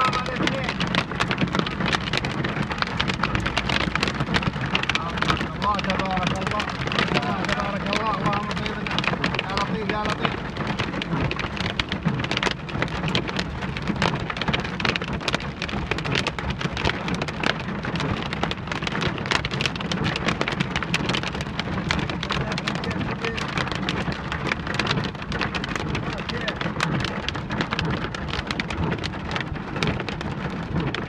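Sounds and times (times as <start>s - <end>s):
heavy rain pouring: 0.0s - 31.0s
steady low rumble: 0.0s - 31.0s.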